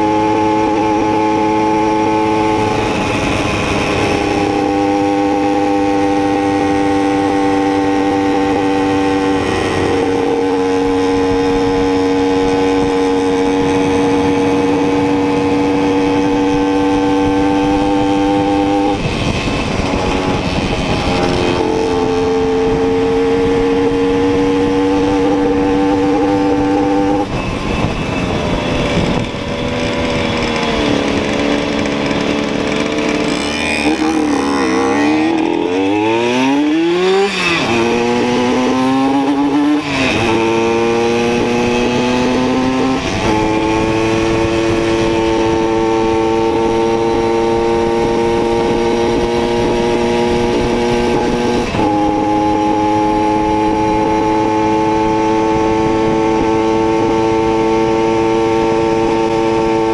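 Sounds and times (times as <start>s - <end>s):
two-stroke moped engine revving: 0.0s - 59.9s
wind rushing over microphone: 0.0s - 59.9s.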